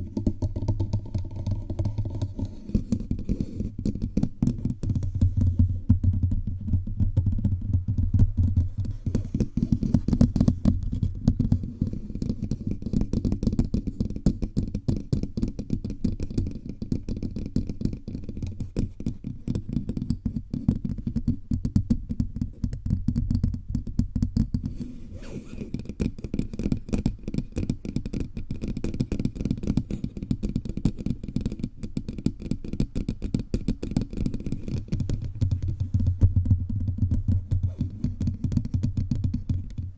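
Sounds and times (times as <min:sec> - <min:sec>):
fingertips tapping on microphone: 0:00.0 - 0:25.0, 0:25.7 - 0:39.9.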